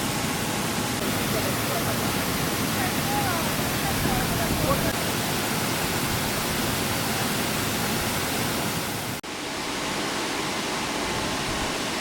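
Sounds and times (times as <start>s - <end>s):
water rushing and bubbling: 0.0s - 12.0s.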